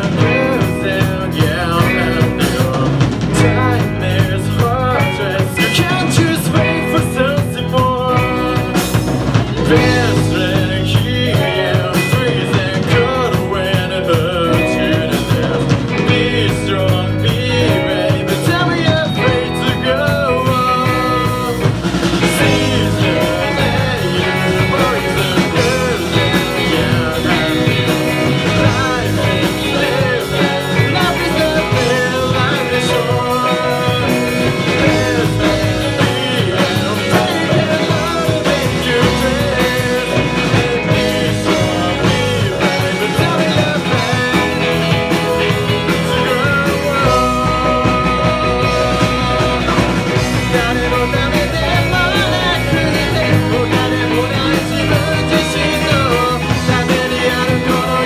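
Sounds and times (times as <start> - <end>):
lead vocalist singing: 0.0 - 58.0
live rock band: 0.0 - 58.0.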